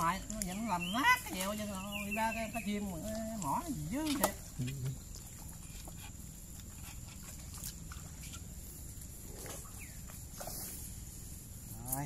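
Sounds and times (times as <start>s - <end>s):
low outdoor noise: 0.0s - 12.0s.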